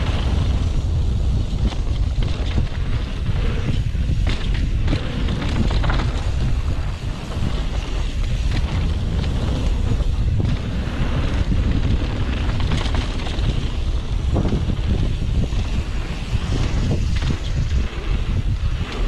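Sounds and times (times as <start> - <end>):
bike tyres rolling on dirt: 0.0 - 19.0
wind buffeting microphone: 0.0 - 19.0.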